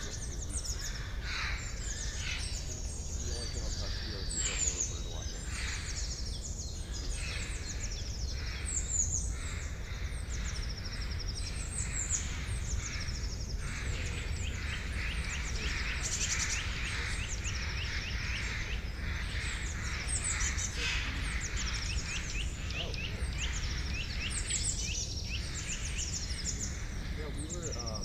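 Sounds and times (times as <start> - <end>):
songbirds singing and chirping: 0.0 - 28.0.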